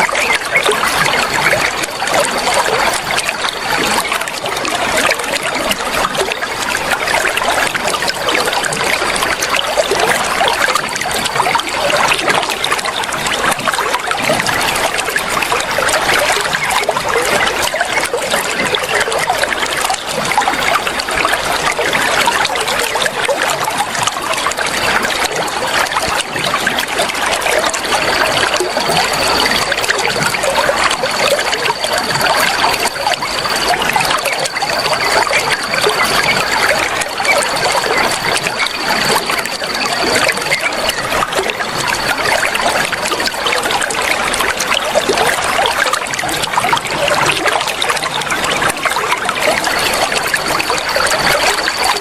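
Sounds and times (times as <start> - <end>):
water trickling and splashing: 0.0 - 52.0.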